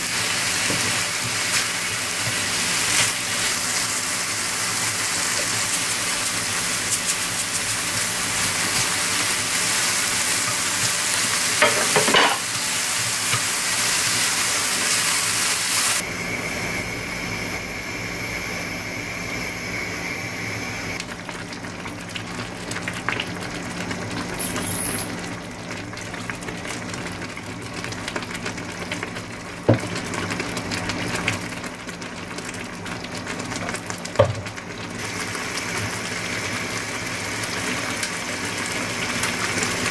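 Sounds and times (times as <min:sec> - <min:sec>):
meat sizzling in a frying pan: 0:00.0 - 0:16.0, 0:20.7 - 0:39.9.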